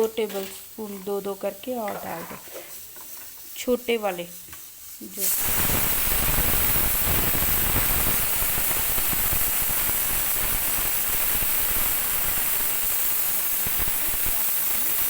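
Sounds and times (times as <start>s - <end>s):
flour sizzling in hot ghee: 0.0s - 15.0s
water steaming in hot pan: 0.0s - 15.0s.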